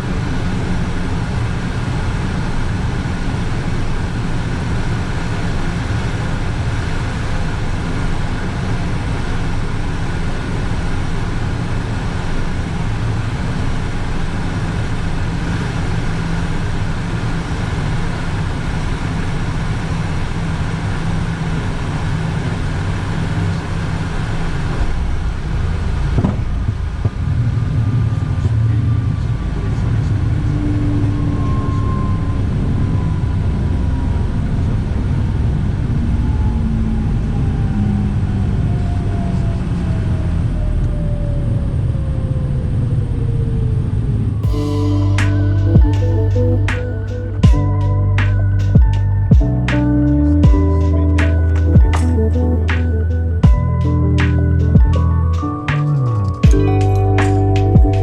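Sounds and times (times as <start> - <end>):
jet engine drone and airflow: 0.0 - 56.6
faint steady whine: 0.0 - 58.0.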